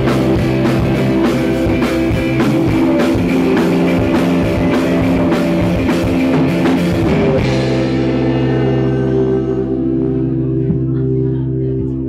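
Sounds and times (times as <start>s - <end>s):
live rock band playing loud: 0.0s - 12.0s.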